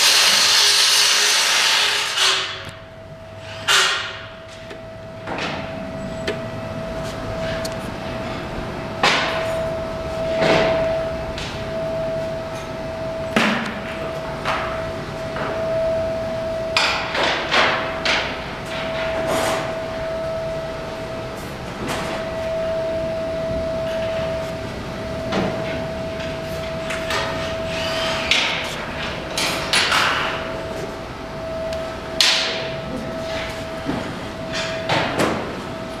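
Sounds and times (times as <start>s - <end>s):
high-pitched hum: 0.0s - 36.0s.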